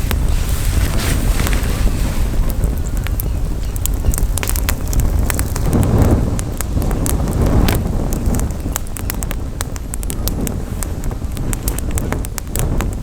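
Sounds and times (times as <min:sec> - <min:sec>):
campfire crackling: 0:00.0 - 0:13.0
wind rumble on microphone: 0:00.0 - 0:13.0.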